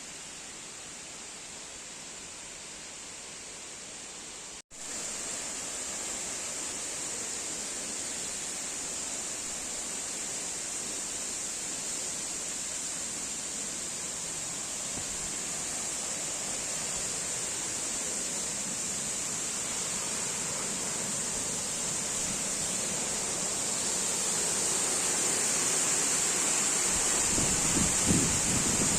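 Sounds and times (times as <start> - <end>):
forest ambience: 0.0 - 28.9.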